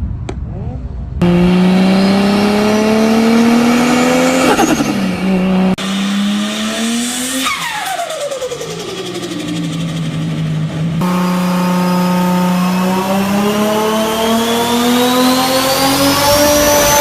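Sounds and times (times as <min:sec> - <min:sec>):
car engine revving: 0:01.2 - 0:17.0.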